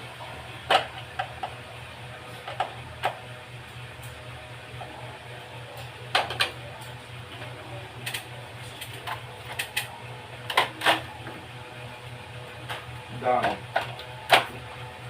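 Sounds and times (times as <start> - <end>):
pulsing low mechanical hum: 0.0 - 15.0.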